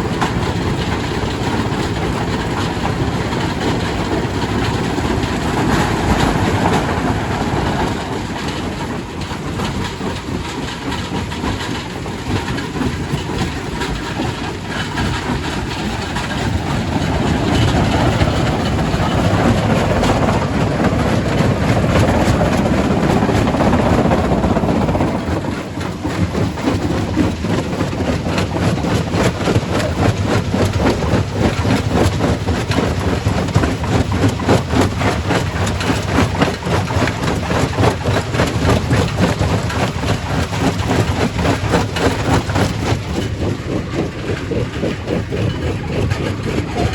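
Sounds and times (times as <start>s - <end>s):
rock crusher rumbling: 0.0s - 46.9s.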